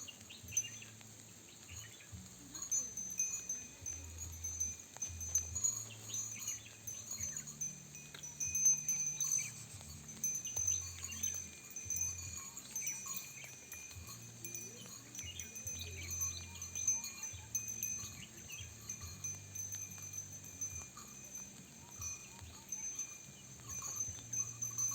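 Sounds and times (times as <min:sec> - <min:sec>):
tinkling chime-like tones: 0:00.0 - 0:24.9.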